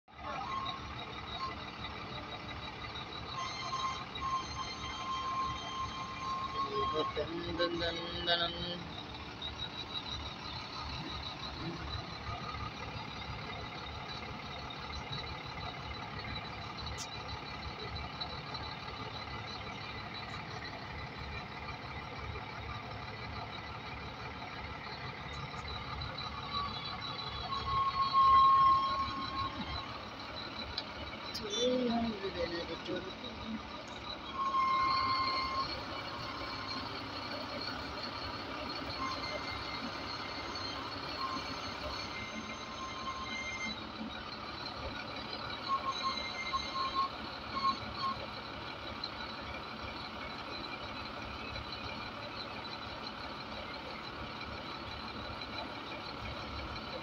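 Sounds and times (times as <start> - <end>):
crane diesel engine running: 0.1 - 57.0
short electronic beeps: 0.2 - 44.8, 45.4 - 48.3.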